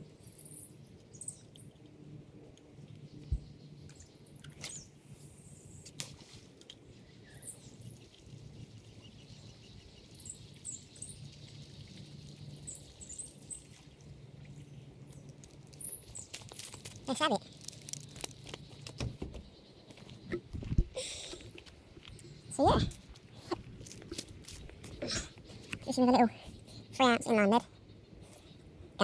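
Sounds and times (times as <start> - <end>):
small birds chirping: 0.0 - 5.9, 6.8 - 29.0.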